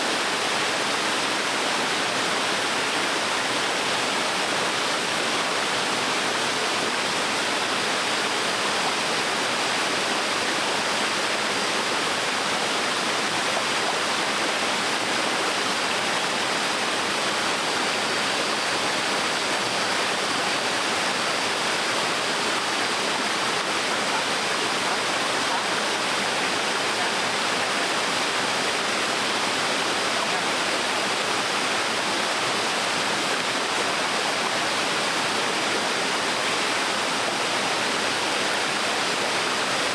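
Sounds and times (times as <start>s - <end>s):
waterfall splashing: 7.6s - 39.9s.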